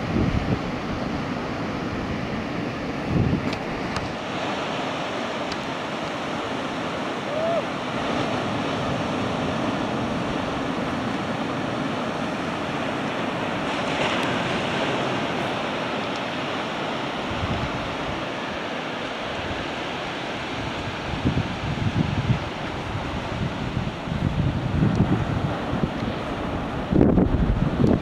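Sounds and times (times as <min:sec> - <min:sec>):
wind rumble on microphone: 0:00.0 - 0:18.6, 0:19.2 - 0:28.0
ocean surf breaking: 0:00.0 - 0:28.0.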